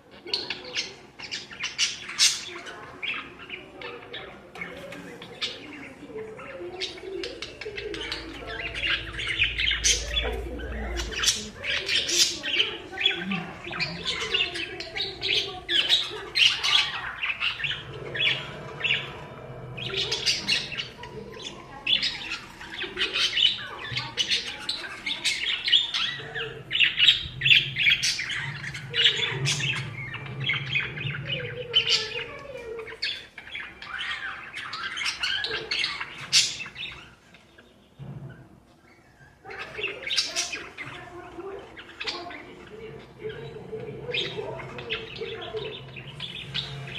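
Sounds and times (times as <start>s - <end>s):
parakeets chattering: 0.0s - 46.9s.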